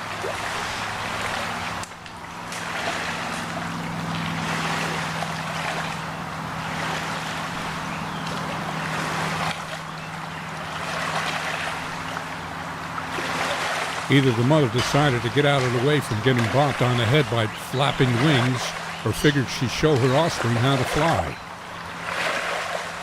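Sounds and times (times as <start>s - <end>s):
low motor hum: 0.0s - 23.0s
rushing water: 0.0s - 23.0s
wind: 0.0s - 23.0s.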